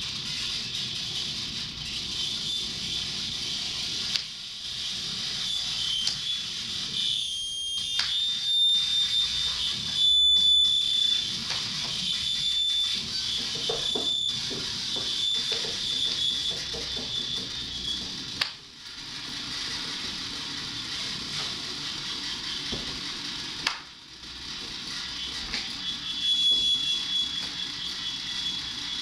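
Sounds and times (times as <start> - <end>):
high wavering electronic squeal: 0.1 - 23.6, 24.2 - 29.0.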